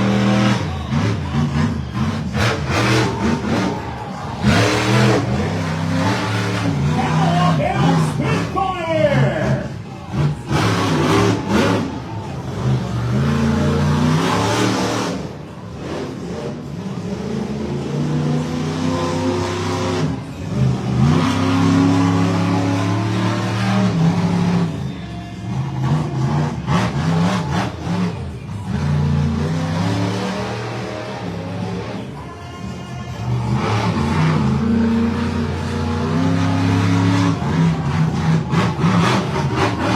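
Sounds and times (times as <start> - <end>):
truck engine revving hard: 0.0 - 32.3, 33.0 - 39.9.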